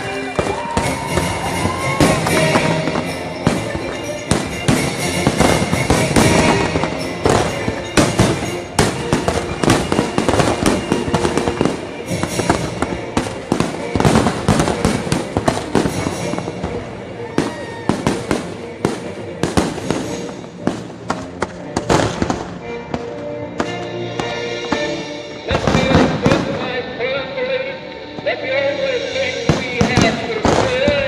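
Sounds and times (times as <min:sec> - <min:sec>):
fireworks bursting: 0:00.0 - 0:26.9, 0:28.2 - 0:31.0
music soundtrack: 0:00.0 - 0:31.0.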